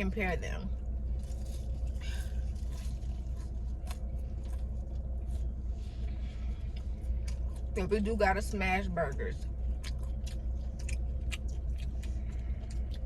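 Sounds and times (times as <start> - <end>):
car hum: 0.0 - 13.0.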